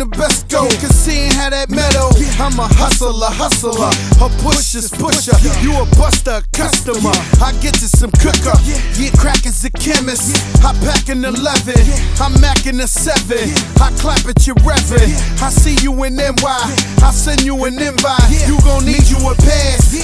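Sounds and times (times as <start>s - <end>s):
rapping over a beat: 0.0s - 20.0s.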